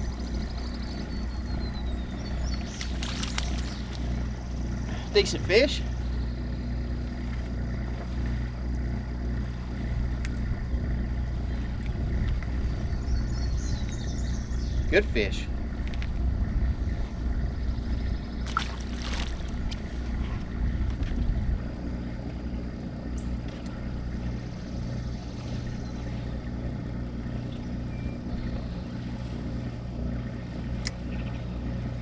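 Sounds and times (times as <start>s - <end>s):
small boat motor humming: 0.0s - 32.0s.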